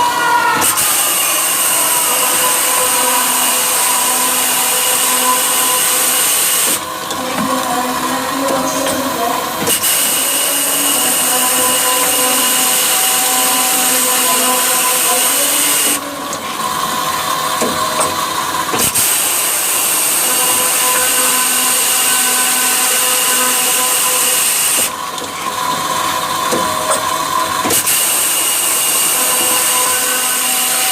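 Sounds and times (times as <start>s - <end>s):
metal-cutting machine motor running: 0.0s - 30.9s.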